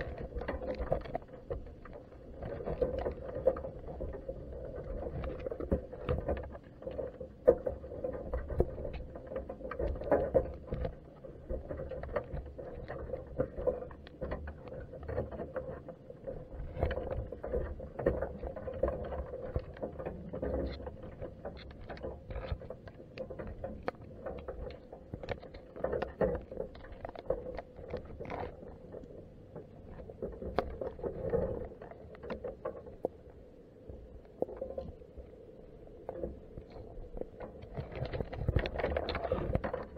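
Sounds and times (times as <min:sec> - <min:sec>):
small clicks and taps: 0:00.0 - 0:39.9
underwater hum with low rumble: 0:00.0 - 0:39.9.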